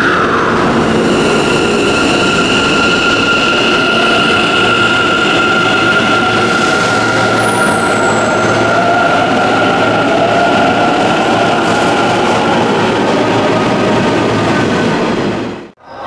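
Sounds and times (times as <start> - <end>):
train cars rumbling: 0.0 - 15.8
high-pitched train whine: 0.0 - 16.0.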